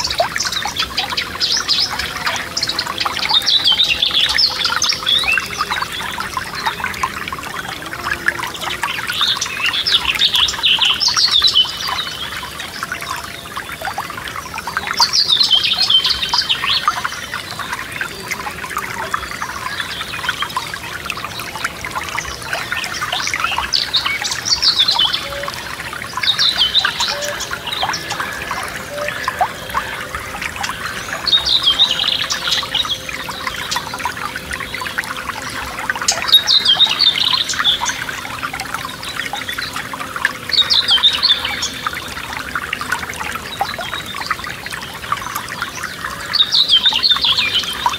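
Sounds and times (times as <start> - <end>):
songbirds singing: 0.0 - 47.9
stream trickling: 0.0 - 47.9.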